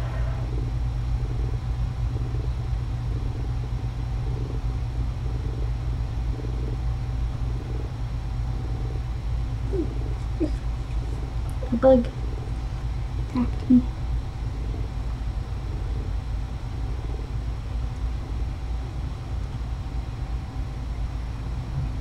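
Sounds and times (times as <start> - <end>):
cat purring: 0.0 - 21.4.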